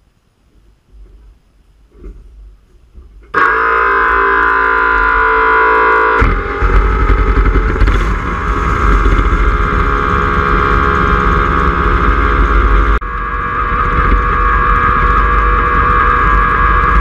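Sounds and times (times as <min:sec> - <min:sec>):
distorted electric guitar music: 0:03.3 - 0:17.0
turbocharged car engine running: 0:03.3 - 0:17.0.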